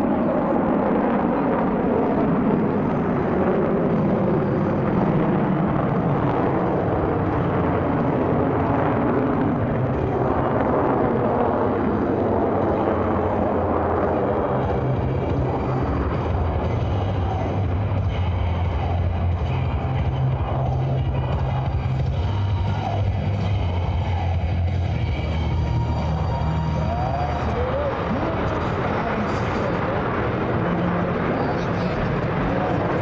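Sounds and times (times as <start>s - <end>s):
jet engines flying overhead: 0.0s - 33.0s.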